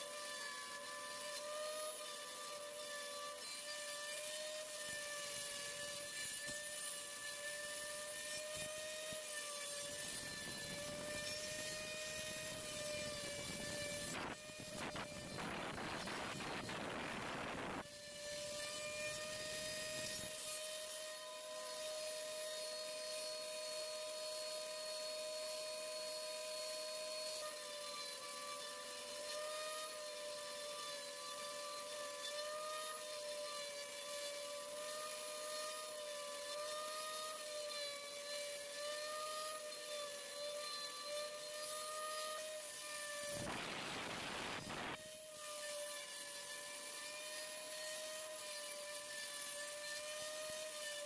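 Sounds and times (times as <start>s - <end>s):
router spindle whining: 0.0s - 51.0s.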